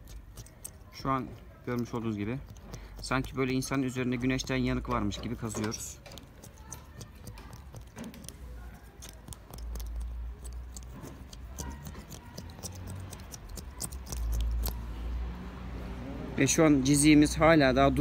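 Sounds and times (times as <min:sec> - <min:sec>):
razor blade scraping glass: 0:00.0 - 0:15.2.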